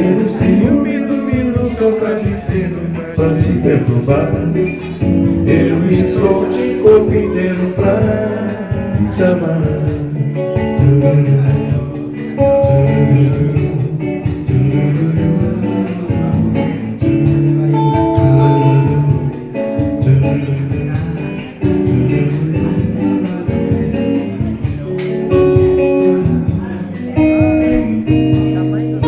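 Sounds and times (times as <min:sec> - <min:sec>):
bass line: 0:00.0 - 0:29.0
guitar: 0:00.0 - 0:29.0
live band instrumental: 0:00.0 - 0:29.0.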